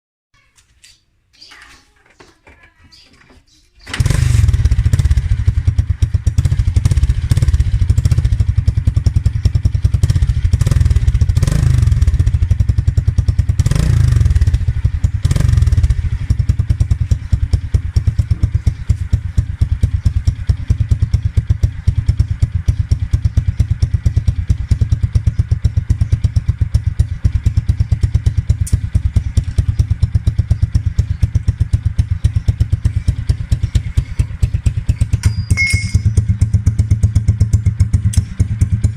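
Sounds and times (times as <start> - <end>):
motorcycle engine revving and idling: 3.8 - 38.9.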